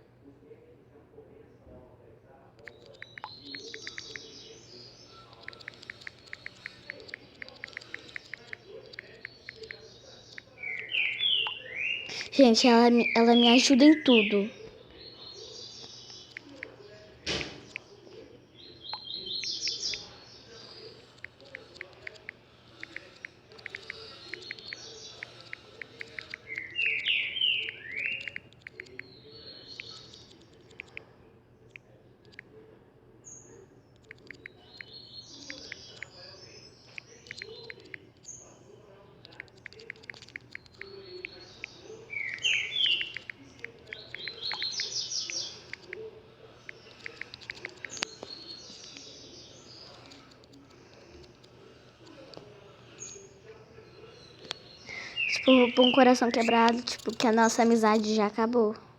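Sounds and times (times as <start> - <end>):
bird chirping: 2.6 - 31.1, 33.2 - 58.5.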